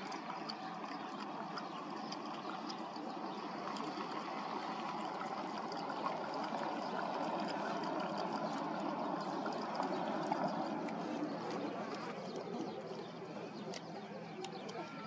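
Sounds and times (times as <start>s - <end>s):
dog lapping water: 0.0s - 15.0s.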